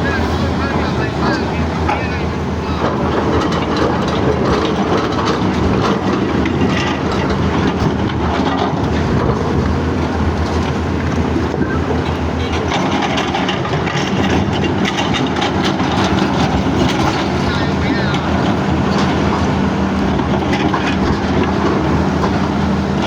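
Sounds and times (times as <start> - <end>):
diesel excavator engine running: 0.0 - 23.0.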